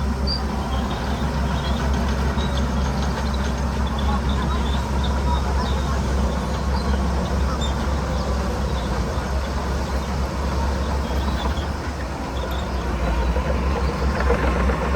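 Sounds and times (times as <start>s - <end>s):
diesel machinery rumbling: 0.0s - 14.9s.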